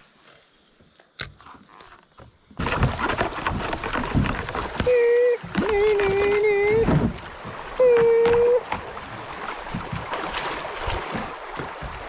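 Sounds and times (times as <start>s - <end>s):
knocks and handling in kayak: 0.2s - 12.0s.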